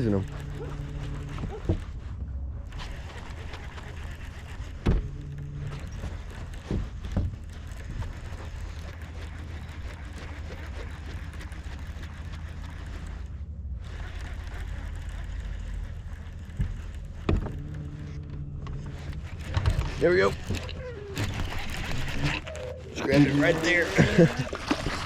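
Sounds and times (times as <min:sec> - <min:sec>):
boat engine hum: 0:00.0 - 0:25.0
water noise: 0:02.6 - 0:25.0.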